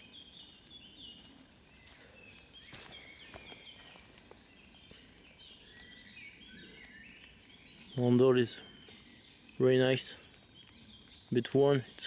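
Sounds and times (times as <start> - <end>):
songbird singing falling notes: 0.0 - 12.0.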